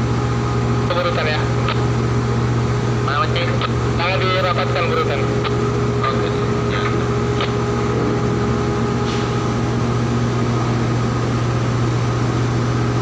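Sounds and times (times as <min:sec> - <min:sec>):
diesel engine droning: 0:00.0 - 0:13.0
steady hum: 0:00.0 - 0:13.0.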